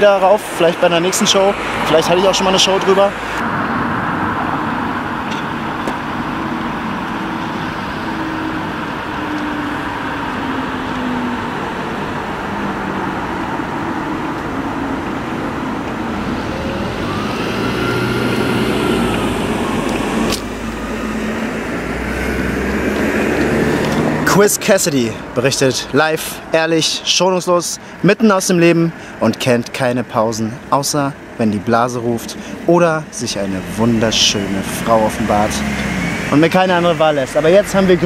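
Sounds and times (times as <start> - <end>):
passing vehicle engine: 0.0 - 26.6, 31.8 - 38.0
city road traffic: 0.0 - 38.0.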